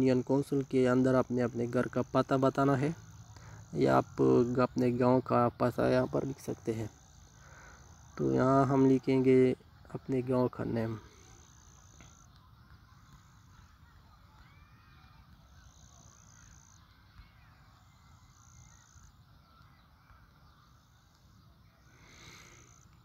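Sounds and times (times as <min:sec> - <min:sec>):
distant bird calls: 0:00.0 - 0:23.0.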